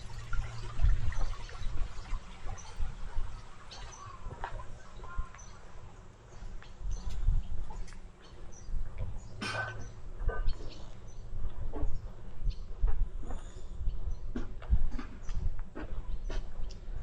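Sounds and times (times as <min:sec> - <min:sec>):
outdoor background noise: 0:00.0 - 0:17.0
small birds chirping: 0:00.1 - 0:17.0.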